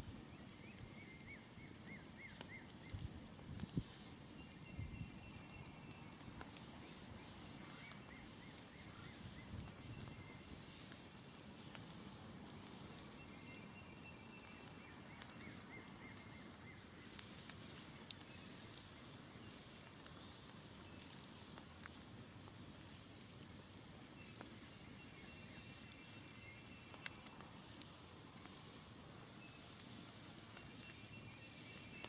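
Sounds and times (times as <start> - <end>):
campfire crackling: 0.0 - 32.0
fire pops: 0.0 - 32.0.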